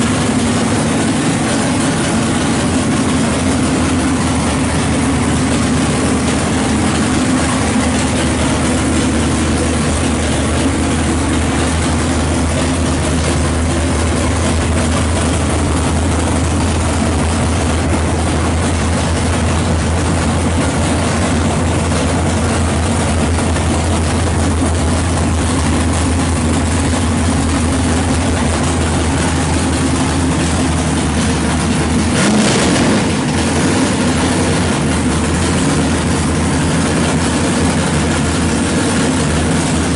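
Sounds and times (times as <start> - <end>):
v eight engine idling: 0.0 - 39.9.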